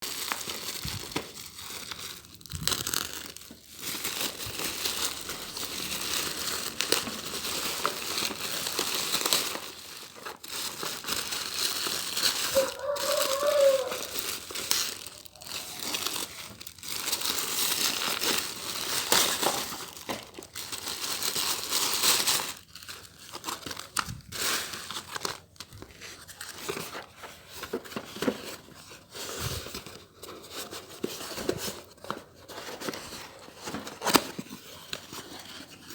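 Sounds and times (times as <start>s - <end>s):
parcel packaging crinkled and torn: 0.0s - 35.9s.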